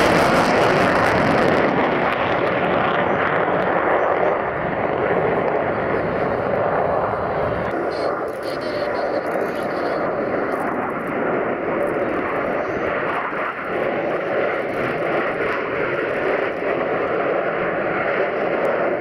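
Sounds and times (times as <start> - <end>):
fighter jets flying overhead: 0.0 - 19.0.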